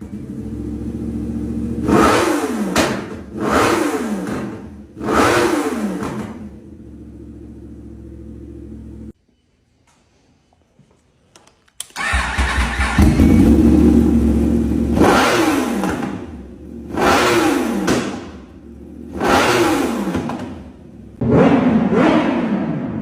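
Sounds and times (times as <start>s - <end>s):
motorcycle engine starting and revving: 0.0s - 9.2s, 11.8s - 23.0s.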